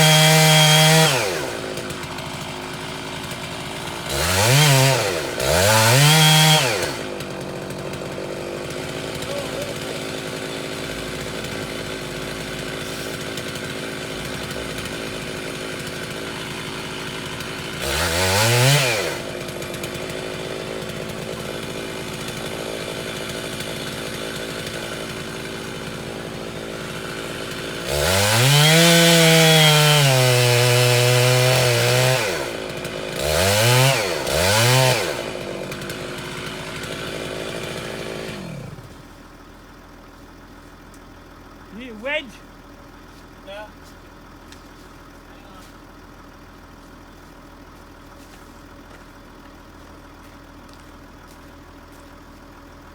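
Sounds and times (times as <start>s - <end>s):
chainsaw idling and revving: 0.0s - 52.9s.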